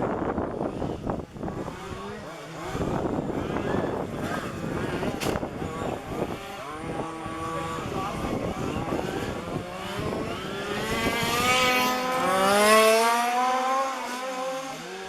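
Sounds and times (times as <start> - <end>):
small two-stroke engine accelerating: 0.0 - 15.0.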